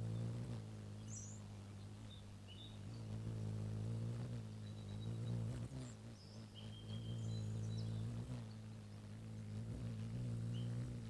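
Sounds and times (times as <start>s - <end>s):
hummingbird wings humming: 0.0s - 11.0s.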